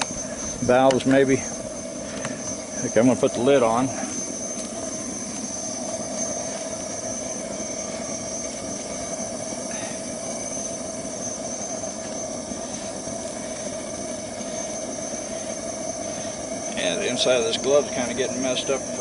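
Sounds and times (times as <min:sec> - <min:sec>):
burner flame rushing: 0:00.0 - 0:19.0.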